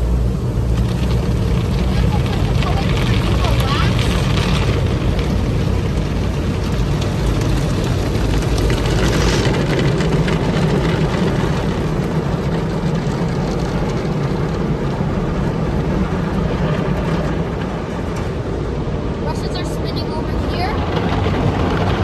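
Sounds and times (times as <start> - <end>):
car wash machinery roaring: 0.0 - 22.0.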